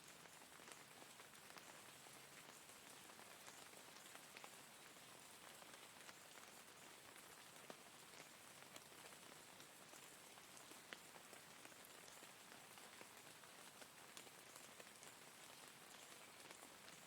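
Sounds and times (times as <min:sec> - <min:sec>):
soft steady rain: 0:00.0 - 0:17.0.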